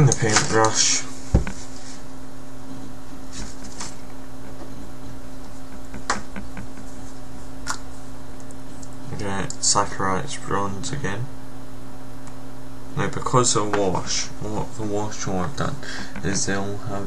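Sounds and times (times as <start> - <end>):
low electrical hum and hiss: 0.0 - 17.0.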